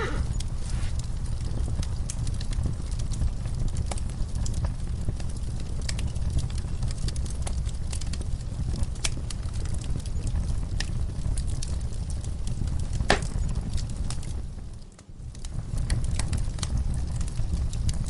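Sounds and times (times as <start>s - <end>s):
fire crackling and popping: 0.0s - 18.0s
low rumble of burning fire: 0.0s - 18.0s.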